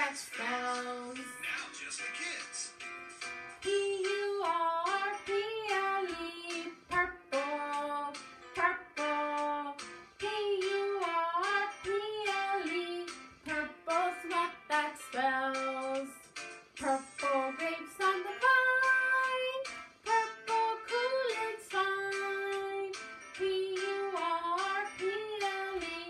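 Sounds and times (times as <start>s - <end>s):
children's song with sung melody: 0.0s - 26.0s
light instrumental backing: 0.0s - 26.0s.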